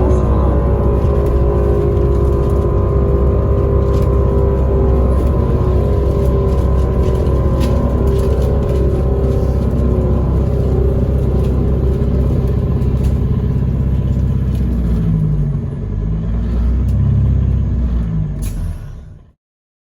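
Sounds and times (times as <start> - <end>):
bus engine and road rumble: 0.0 - 19.4.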